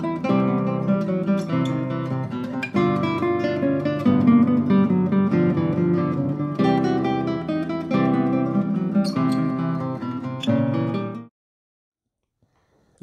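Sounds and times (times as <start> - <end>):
classical guitar plucked notes: 0.0 - 11.3.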